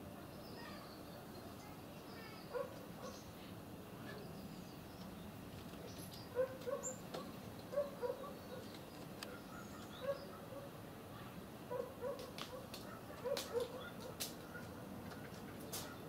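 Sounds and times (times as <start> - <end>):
outdoor background: 0.0 - 16.0.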